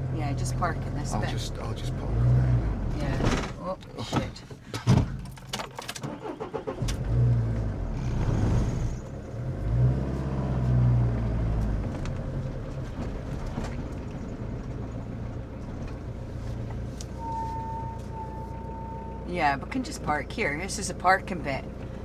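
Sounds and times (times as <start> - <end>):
motorhome engine revving: 0.0 - 22.0.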